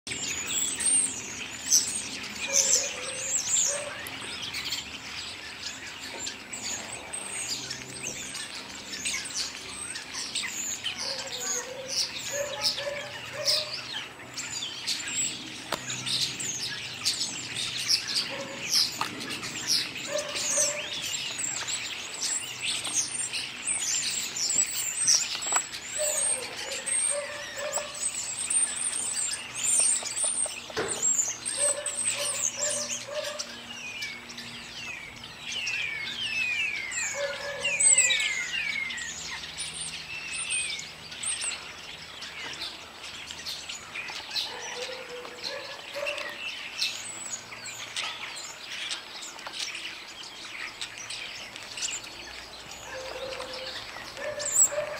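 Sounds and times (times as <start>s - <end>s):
starlings singing in chorus: 0.1s - 54.9s.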